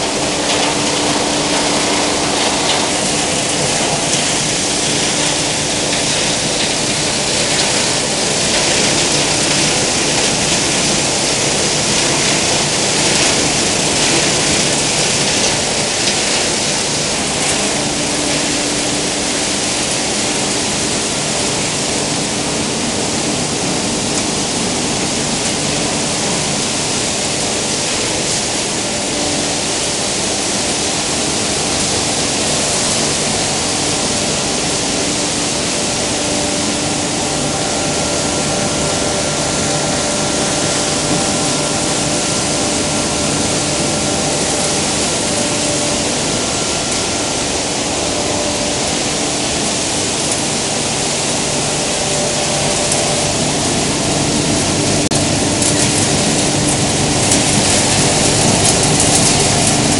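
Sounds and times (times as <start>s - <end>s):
faint high whine: 0.0s - 59.9s
low steady hum: 0.0s - 59.9s
machinery and water rushing: 0.0s - 59.9s.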